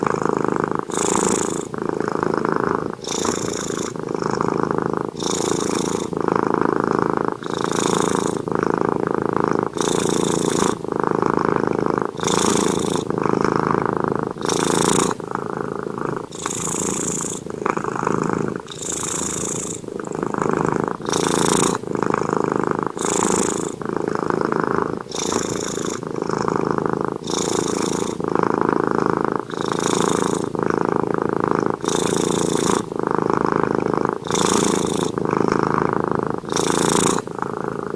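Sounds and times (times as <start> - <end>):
cat snoring: 0.0 - 37.9.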